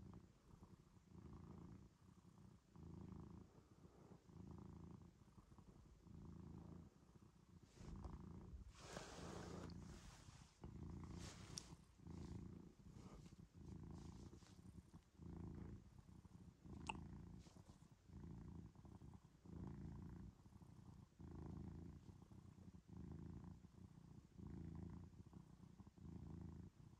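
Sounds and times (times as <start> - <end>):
cat purring: 0.0 - 26.9.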